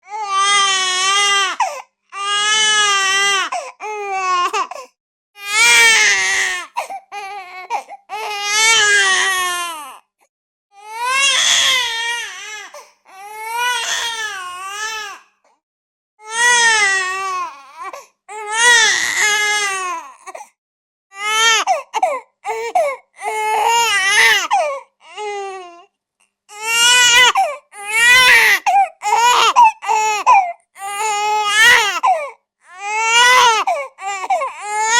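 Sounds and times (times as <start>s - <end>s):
baby crying: 0.0s - 10.0s, 10.8s - 15.3s, 16.2s - 20.5s, 21.1s - 25.9s, 26.5s - 34.9s.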